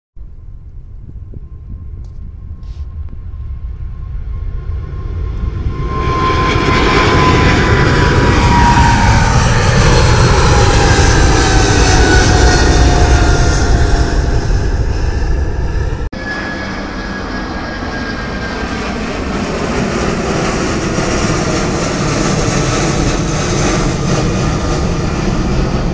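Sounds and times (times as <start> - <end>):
jet airliner engine whine: 0.2 - 25.9
jet airliner passing overhead: 0.2 - 25.9.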